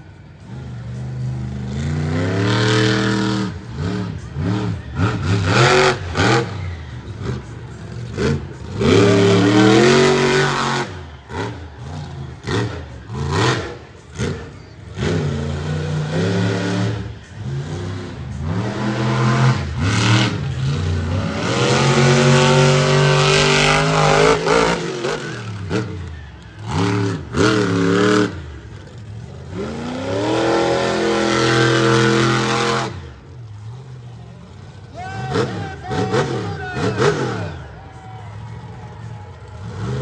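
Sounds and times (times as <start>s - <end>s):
truck engine revving hard: 0.0s - 40.0s.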